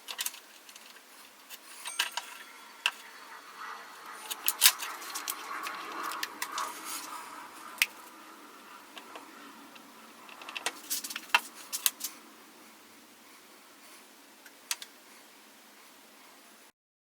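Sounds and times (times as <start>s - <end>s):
faint steady hiss: 0.0s - 16.7s.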